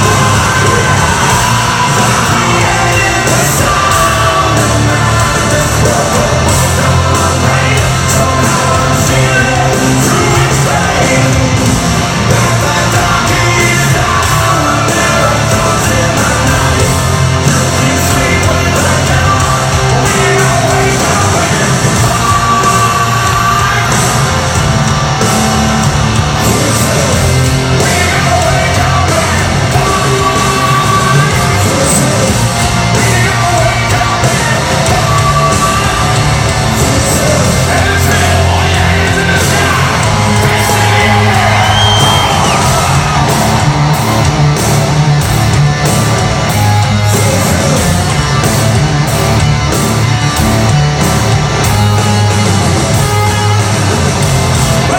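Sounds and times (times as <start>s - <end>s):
person singing and yelling: 0.0s - 45.2s
hard rock music: 0.0s - 54.9s.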